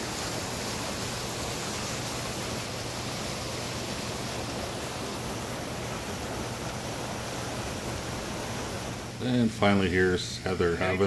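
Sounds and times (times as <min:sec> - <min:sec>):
waterfall rushing over rocks: 0:00.0 - 0:09.4.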